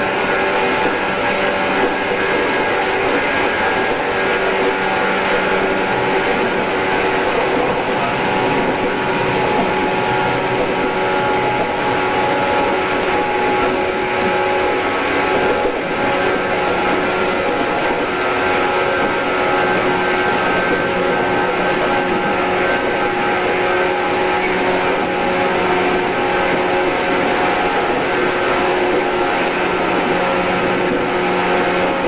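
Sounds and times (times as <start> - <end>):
train motor whine: 0.0 - 32.0
train wheels rumbling on rail: 0.0 - 32.0.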